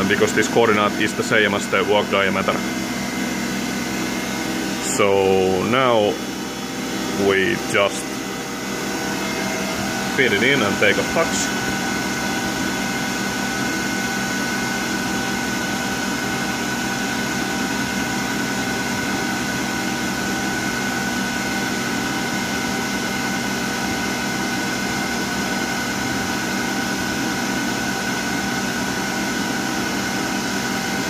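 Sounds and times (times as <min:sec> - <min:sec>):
lathe machine hum and whine: 0:00.0 - 0:31.0.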